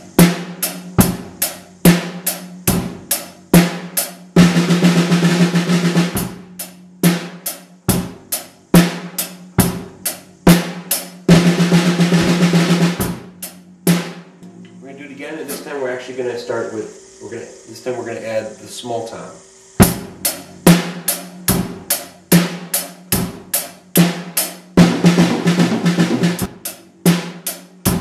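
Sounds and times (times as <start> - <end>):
snare drum fill: 0.0 - 14.4, 15.4 - 15.8, 19.8 - 28.0
drum kit steady beat: 0.0 - 28.0.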